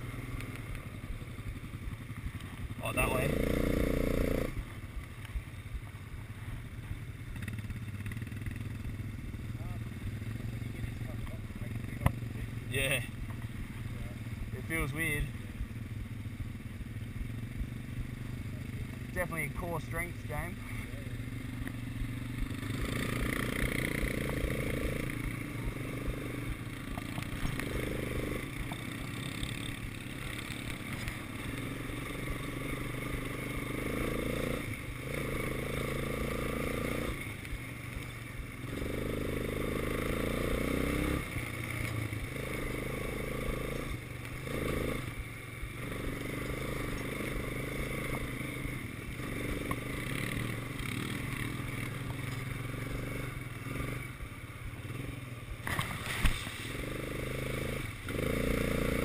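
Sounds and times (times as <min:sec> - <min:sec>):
quad bike engine revving: 0:00.0 - 0:04.7, 0:07.1 - 0:13.2, 0:13.8 - 0:59.0.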